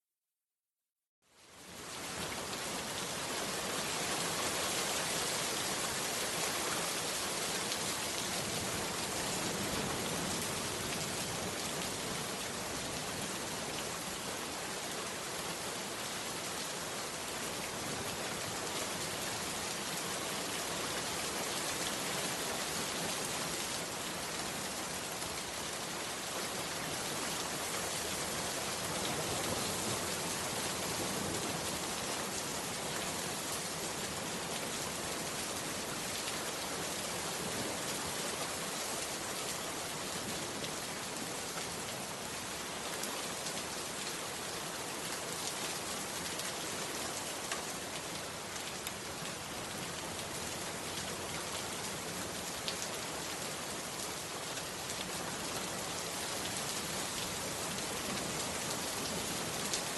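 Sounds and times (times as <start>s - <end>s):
heavy rain on a hut: 1.2s - 59.9s.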